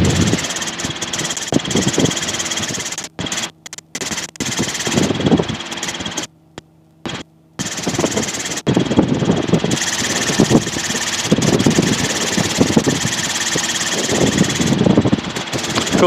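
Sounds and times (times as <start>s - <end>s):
helicopter engine and rotor: 0.0s - 16.0s
low buffeting: 0.0s - 16.0s.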